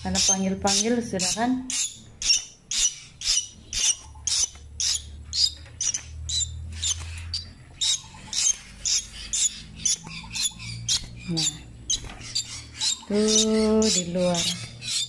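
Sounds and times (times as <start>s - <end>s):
young bird squawking: 0.0s - 15.0s.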